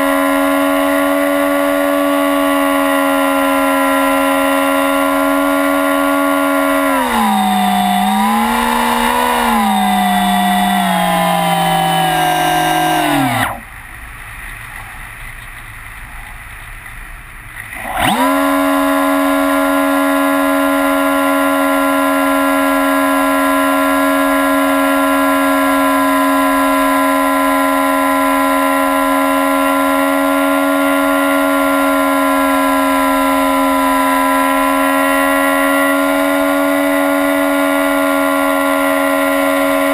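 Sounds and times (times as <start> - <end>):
model airplane motor whining: 0.0 - 13.8, 17.6 - 39.9.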